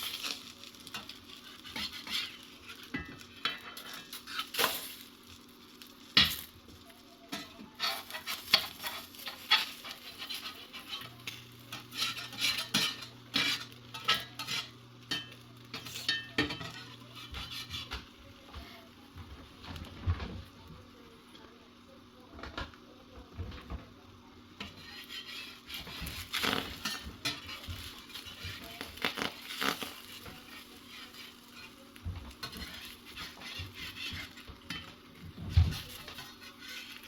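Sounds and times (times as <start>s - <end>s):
spatula scraping cast iron skillet: 0.0s - 20.6s, 24.6s - 37.0s
eggs sizzling: 0.0s - 22.8s, 23.4s - 37.0s.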